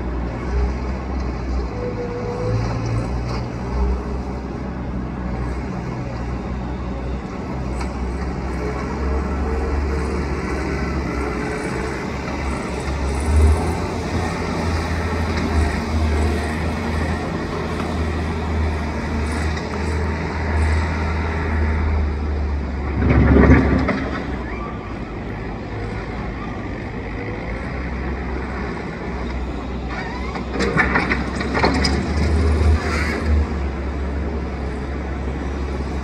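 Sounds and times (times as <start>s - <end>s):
loader engine rumbling: 0.0s - 36.0s.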